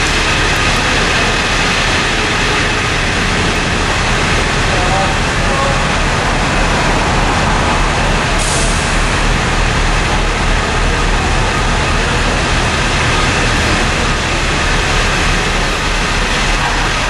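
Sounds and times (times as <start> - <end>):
fire engine idling: 0.0 - 17.0.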